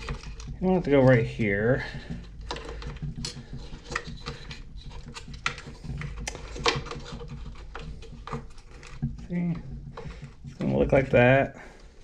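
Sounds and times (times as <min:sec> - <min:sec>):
plastic parts clicking and rattling: 0:00.0 - 0:12.0.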